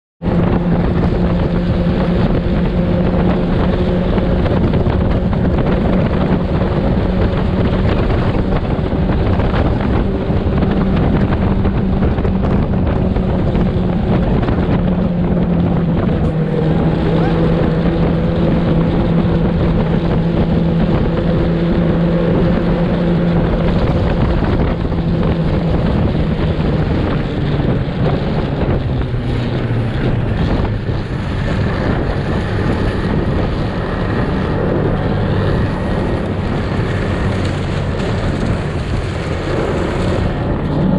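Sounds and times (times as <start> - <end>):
snowmobile engine running: 0.2 - 40.9
wind buffeting microphone: 0.2 - 40.9.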